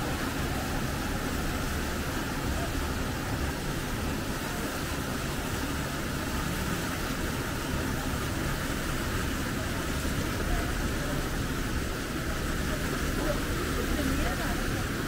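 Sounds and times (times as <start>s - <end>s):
cascade water rushing: 0.0s - 15.0s.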